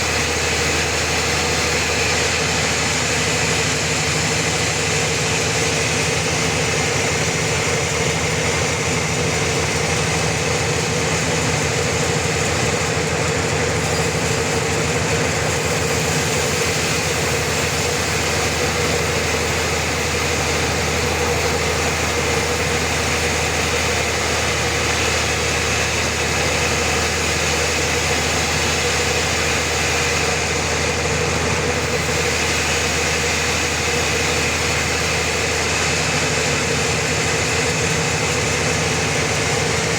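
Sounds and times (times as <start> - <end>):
sawmill engine rumble: 0.0 - 39.9.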